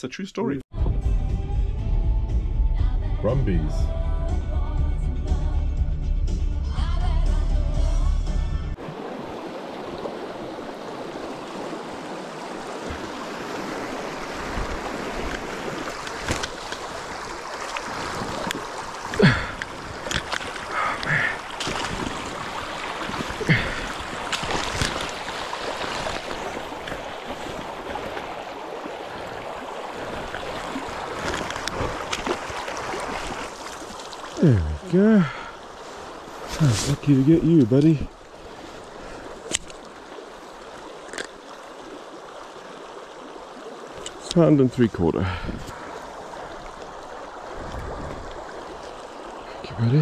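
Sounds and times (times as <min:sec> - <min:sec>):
river water running over stones: 0:08.8 - 0:50.0.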